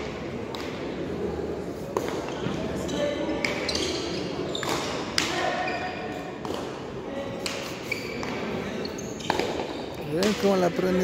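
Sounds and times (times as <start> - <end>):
murmur of crowd voices: 0.0 - 11.0.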